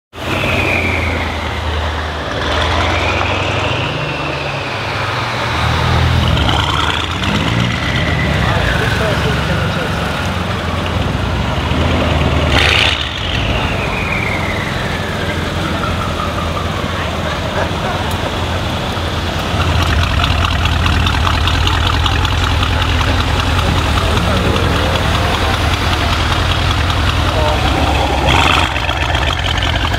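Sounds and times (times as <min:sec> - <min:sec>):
deep car exhaust rumble: 0:05.3 - 0:29.9.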